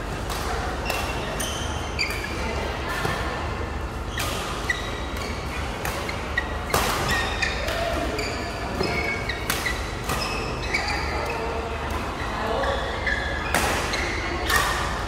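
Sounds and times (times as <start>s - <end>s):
shoes squeaking on court: 0.7s - 2.6s, 4.0s - 14.4s.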